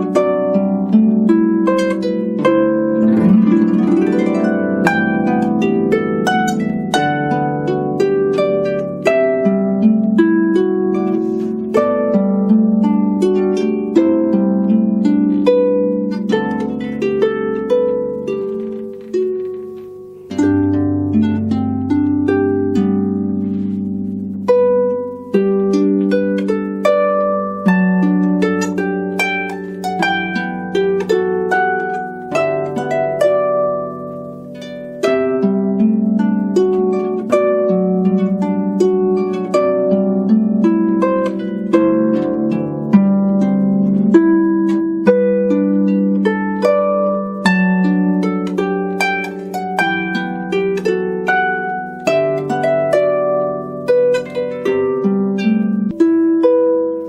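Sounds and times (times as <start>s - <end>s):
solo harp playing: 0.0s - 57.0s.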